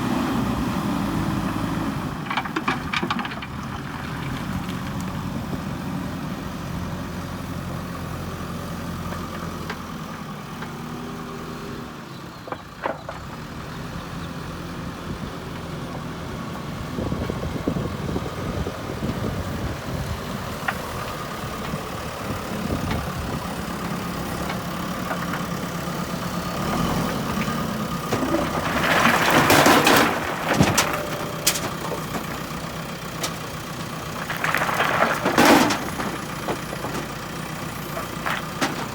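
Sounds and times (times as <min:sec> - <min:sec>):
diesel engine running: 0:00.3 - 0:38.9.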